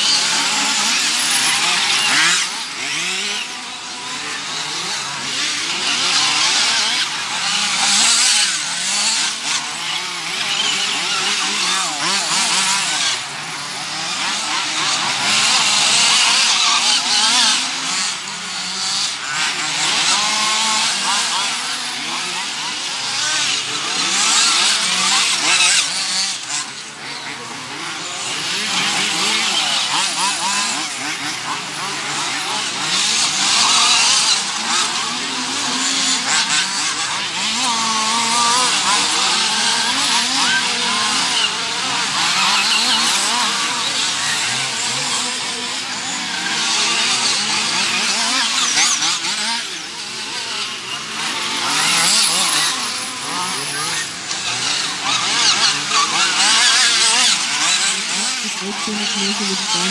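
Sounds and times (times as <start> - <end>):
rc buggy engines whining: 0.0 - 59.9.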